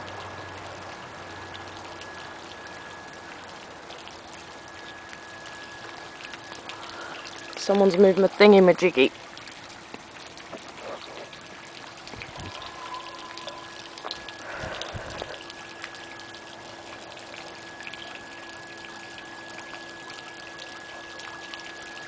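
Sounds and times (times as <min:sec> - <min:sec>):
faint steady hum: 0:00.0 - 0:22.0
rain falling and dripping: 0:00.0 - 0:22.0.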